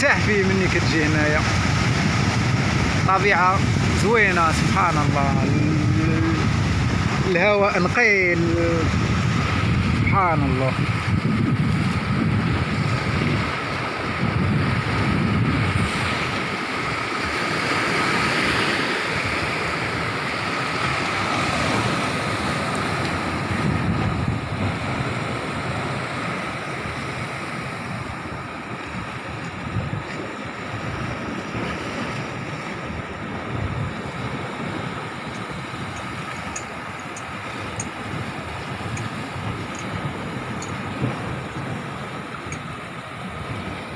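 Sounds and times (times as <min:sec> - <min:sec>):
surf washing on shore: 0:00.0 - 0:43.9
wind buffeting microphone: 0:00.0 - 0:43.9.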